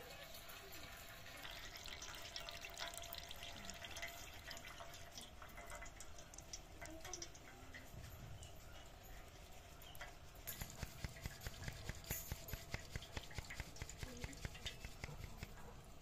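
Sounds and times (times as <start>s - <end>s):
juice dripping into steel bowl: 0.0s - 16.0s.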